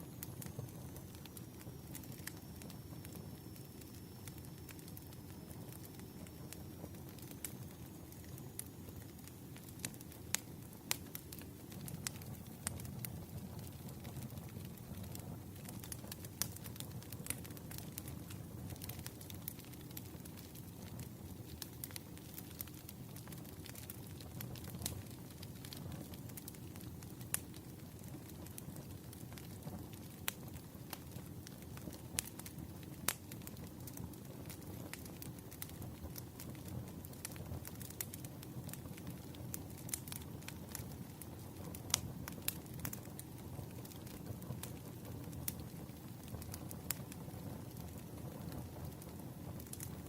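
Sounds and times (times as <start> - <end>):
firewood crackling and popping: 0.0 - 50.0.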